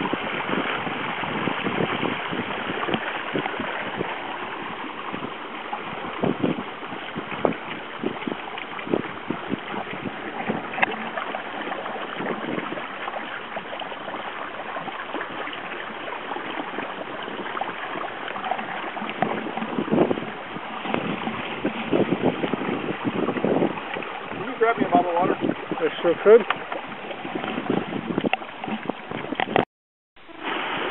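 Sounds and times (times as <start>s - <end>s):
water rushing along a hull: 0.0s - 29.6s, 30.2s - 30.9s
water slapping against hulls: 0.0s - 29.6s, 30.2s - 30.9s.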